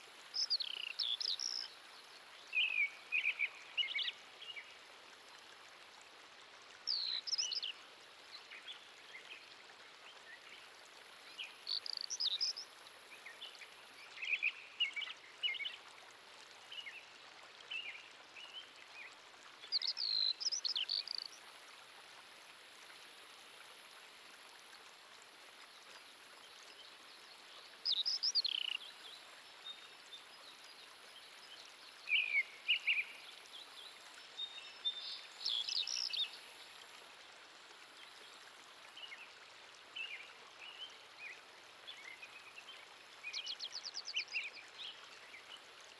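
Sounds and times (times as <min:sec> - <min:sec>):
high ambient hiss: 0:00.0 - 0:45.9.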